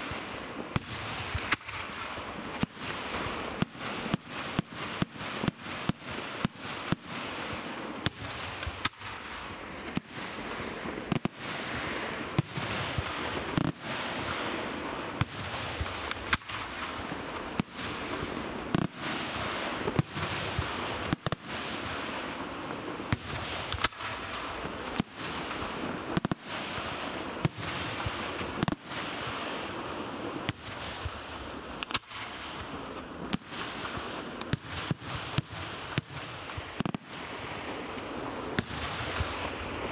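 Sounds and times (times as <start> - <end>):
firework bangs: 0.0 - 39.9
firework crackle and hiss: 0.0 - 39.9.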